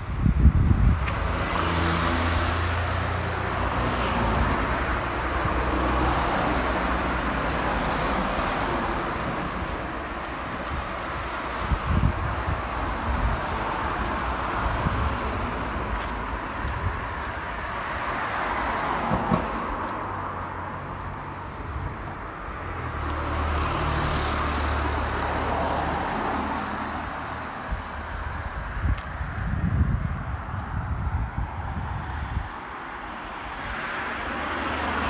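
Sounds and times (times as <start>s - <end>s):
cars passing on road: 0.0s - 35.0s.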